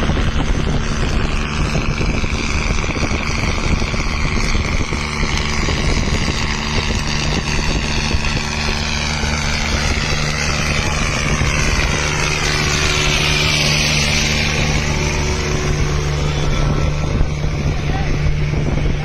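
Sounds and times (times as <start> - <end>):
high whine: 0.0 - 19.0
tractor engine running: 0.0 - 19.0.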